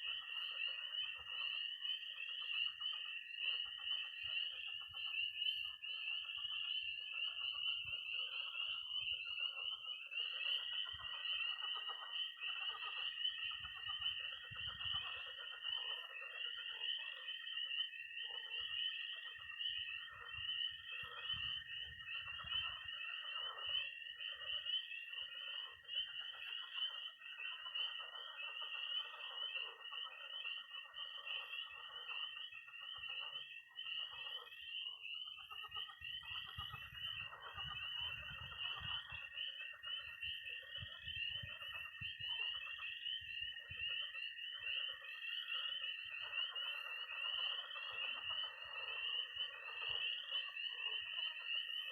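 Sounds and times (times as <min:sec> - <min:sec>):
frogs croaking: 0:00.0 - 0:51.9
high peeping of peepers: 0:00.0 - 0:51.9
toad trilling: 0:00.0 - 0:51.9.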